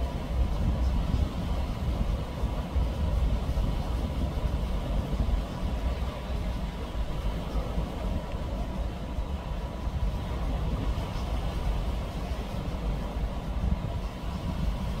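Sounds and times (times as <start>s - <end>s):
boat engine rumble: 0.0s - 15.0s
wind noise on microphone: 0.0s - 15.0s.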